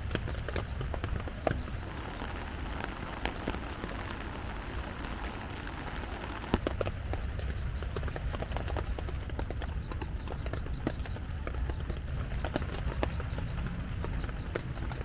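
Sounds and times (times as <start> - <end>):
raindrops tapping: 0.0 - 15.0
steady rain falling: 0.0 - 15.0.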